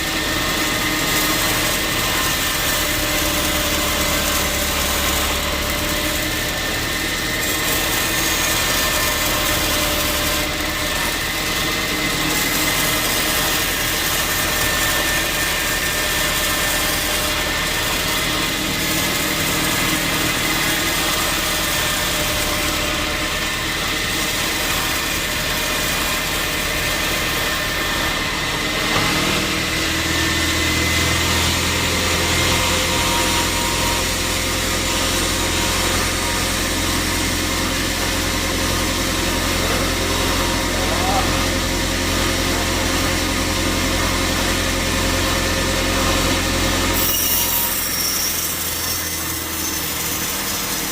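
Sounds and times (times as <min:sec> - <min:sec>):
sawmill machinery drone: 0:00.0 - 0:50.9.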